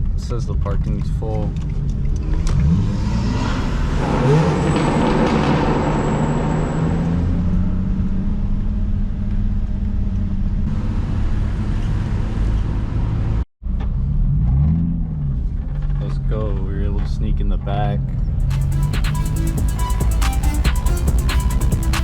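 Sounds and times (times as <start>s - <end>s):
car engine running at low speed: 0.0s - 22.0s.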